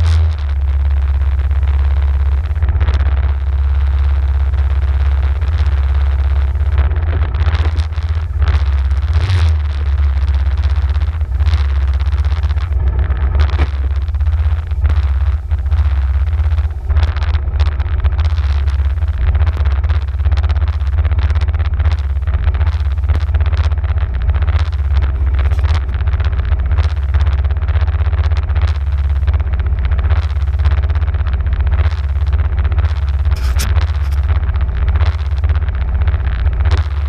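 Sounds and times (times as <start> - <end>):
quad engine running at low speed: 0.0 - 37.0.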